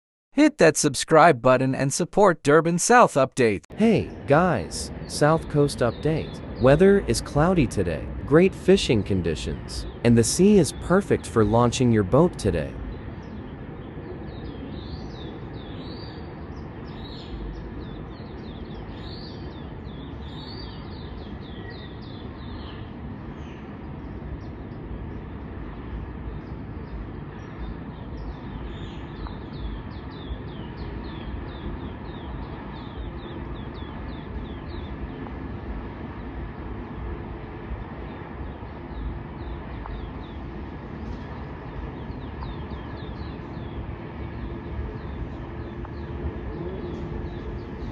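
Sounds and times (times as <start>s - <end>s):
steady low rumble: 2.9s - 47.9s
small birds chirping: 3.9s - 47.9s.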